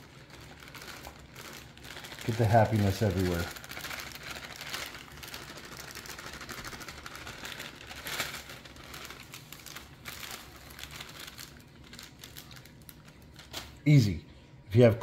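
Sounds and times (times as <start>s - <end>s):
plastic bag rustling: 0.0s - 13.8s.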